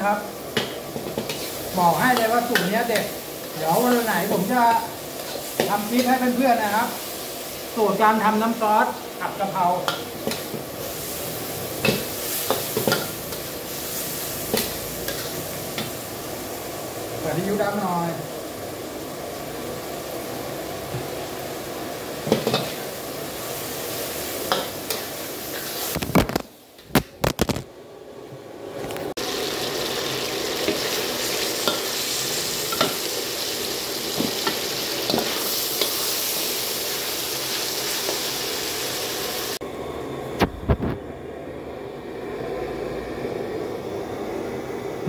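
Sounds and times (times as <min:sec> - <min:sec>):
meat sizzling in a wok: 0:00.0 - 0:26.8, 0:29.1 - 0:39.6.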